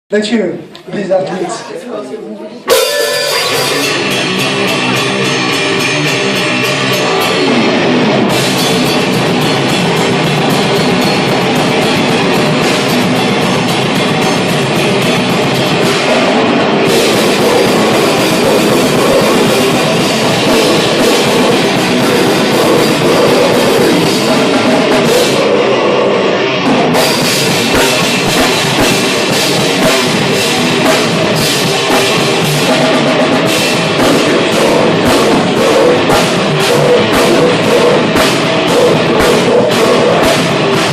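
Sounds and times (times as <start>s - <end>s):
electric guitar: 2.6s - 40.9s
cymbals: 2.7s - 40.9s
heavy metal band playing live: 2.7s - 40.9s.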